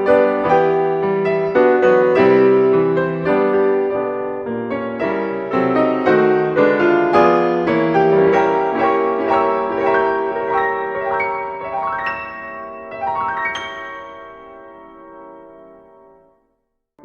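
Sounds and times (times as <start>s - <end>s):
piano music: 0.0s - 16.6s.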